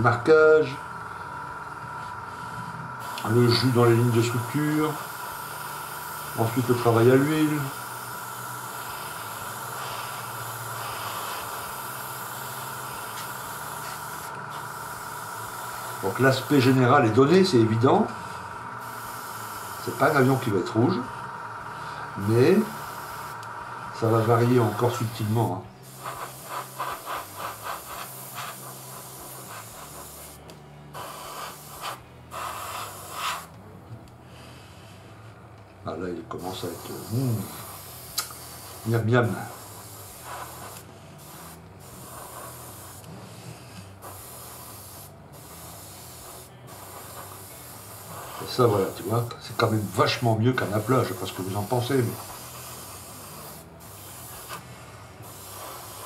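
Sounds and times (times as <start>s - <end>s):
air hissing: 0.0s - 35.6s, 36.3s - 56.0s
compressor humming: 0.0s - 56.0s.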